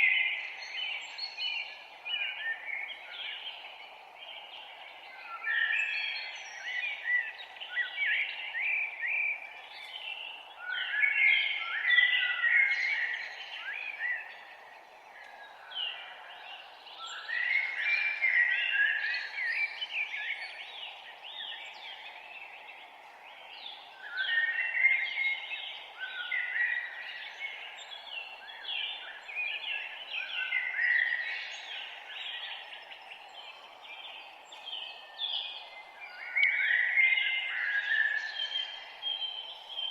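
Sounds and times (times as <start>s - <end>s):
low background hiss: 0.0s - 39.9s
songbirds singing: 0.0s - 39.9s.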